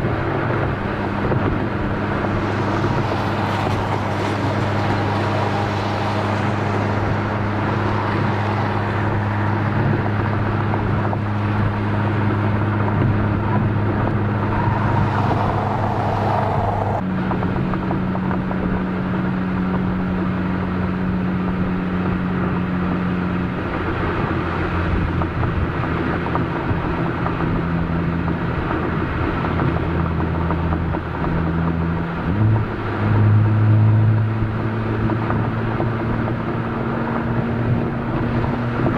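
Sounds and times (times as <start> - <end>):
car exhaust: 0.0 - 38.9.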